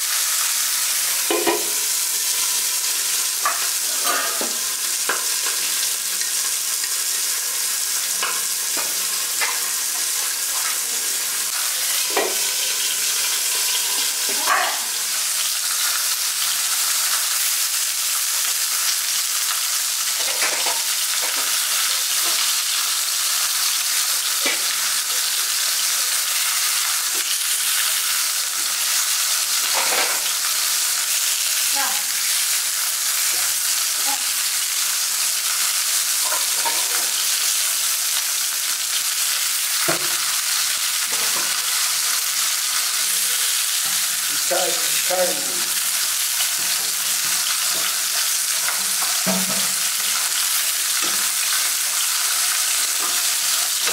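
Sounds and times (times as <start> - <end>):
fish sizzling in hot oil: 0.0 - 53.9.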